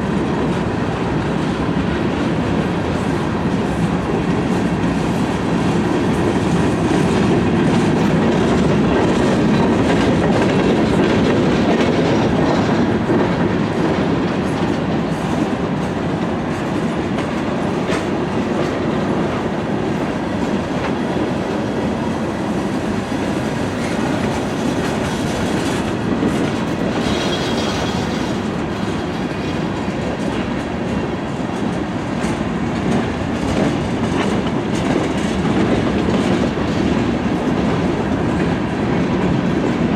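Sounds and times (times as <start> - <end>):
freight train rolling: 0.0 - 39.9
wheels clacking over rail joints: 1.3 - 39.9.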